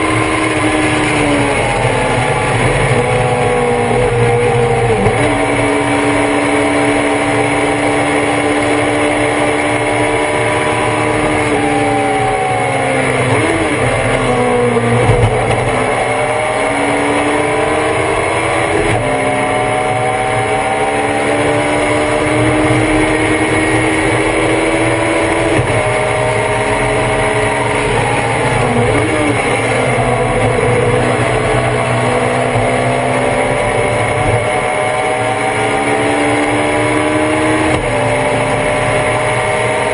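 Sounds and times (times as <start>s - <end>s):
race car engine accelerating: 0.0s - 39.9s
throttle blips on downshifts: 0.0s - 39.9s.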